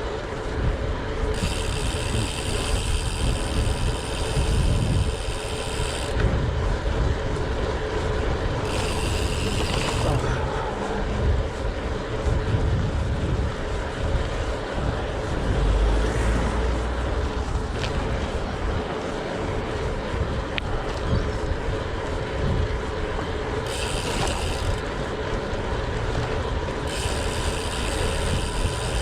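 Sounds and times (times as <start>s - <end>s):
bicycle freewheel buzzing: 0.0s - 29.0s
wind rumbling on microphone: 0.0s - 29.0s.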